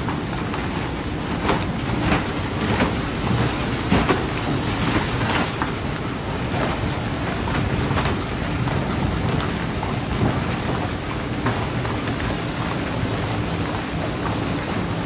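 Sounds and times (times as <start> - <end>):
car wash machinery din: 0.0 - 15.0
spraying water: 2.4 - 14.8.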